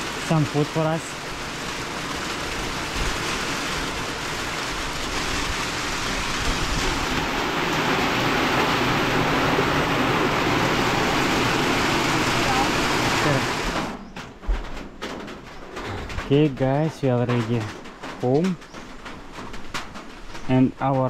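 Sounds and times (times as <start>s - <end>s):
heavy rain falling: 0.0s - 21.0s
rain hitting an umbrella: 0.0s - 21.0s.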